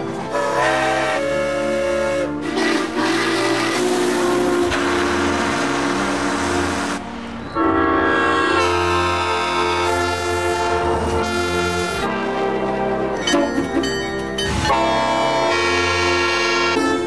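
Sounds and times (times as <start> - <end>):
locomotive whistles and horns: 0.2 - 12.6, 14.4 - 17.0.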